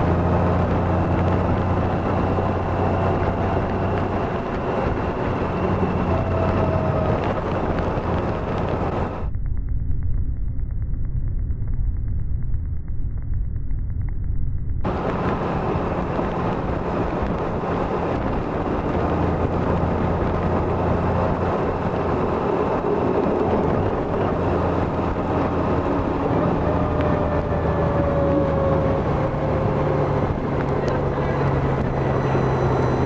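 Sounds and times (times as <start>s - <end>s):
motorcycle engine drone: 0.0s - 33.0s
wind and road noise: 0.0s - 33.0s.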